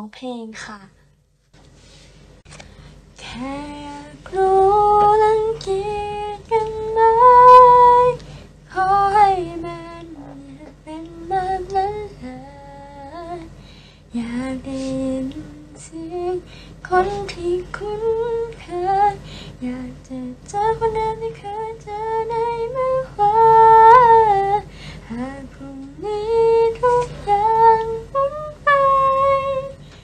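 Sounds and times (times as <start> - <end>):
woman singing unaccompanied: 3.2 - 13.5, 14.1 - 29.8.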